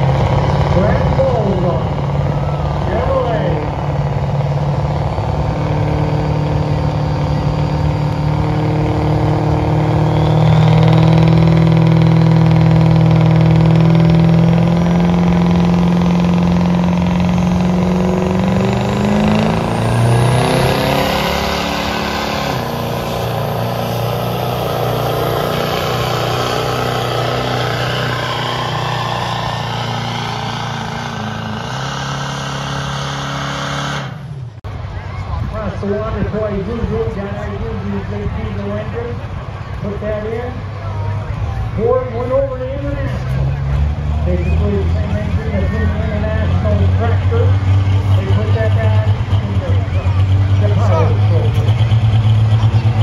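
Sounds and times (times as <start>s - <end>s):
truck engine at high revs: 0.0s - 53.0s.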